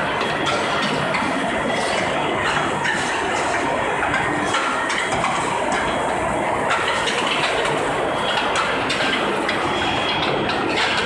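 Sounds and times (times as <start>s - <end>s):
steady machine noise: 0.0s - 11.0s.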